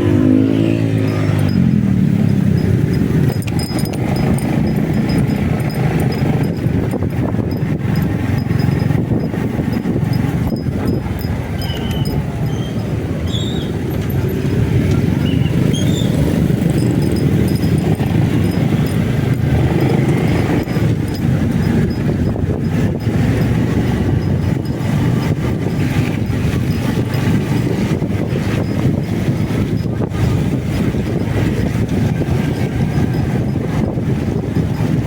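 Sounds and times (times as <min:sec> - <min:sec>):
motorcycle engine and road rumble: 0:00.0 - 0:35.0
wind on microphone: 0:00.0 - 0:35.0.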